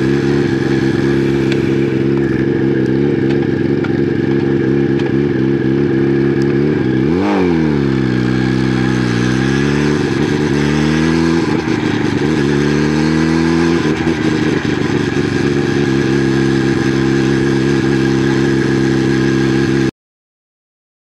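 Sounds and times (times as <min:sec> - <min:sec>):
wind and road noise: 0:00.0 - 0:19.8
motorcycle engine revving: 0:00.0 - 0:19.9.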